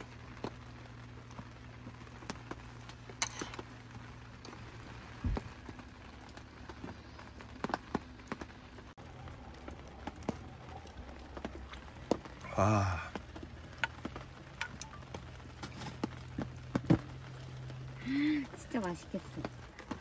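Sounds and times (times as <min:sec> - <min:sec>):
rain tapping on a tent: 0:00.0 - 0:20.0.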